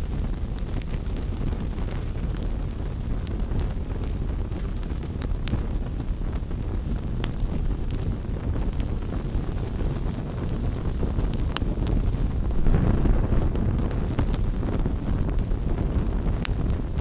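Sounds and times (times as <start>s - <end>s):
burning wood crackling and popping: 0.0s - 17.0s
flames rumbling: 0.0s - 17.0s.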